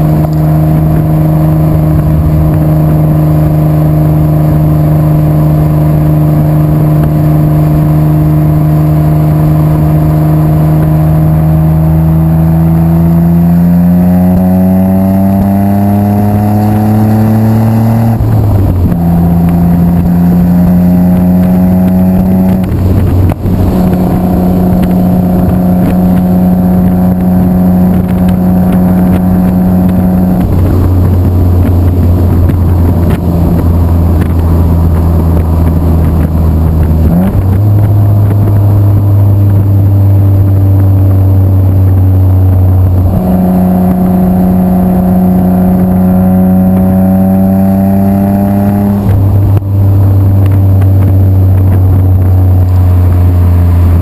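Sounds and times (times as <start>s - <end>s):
car exhaust drone while driving: 0.0s - 54.0s.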